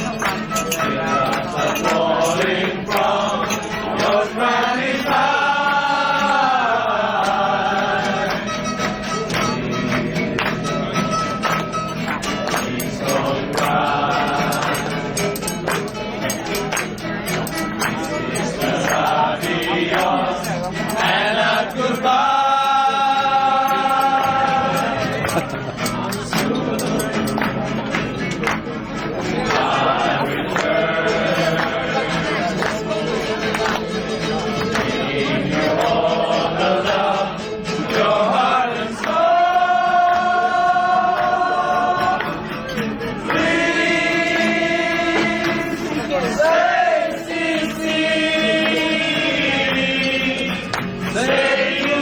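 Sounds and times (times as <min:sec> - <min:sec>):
music: 0:00.0 - 0:52.0
voices singing: 0:00.0 - 0:52.0.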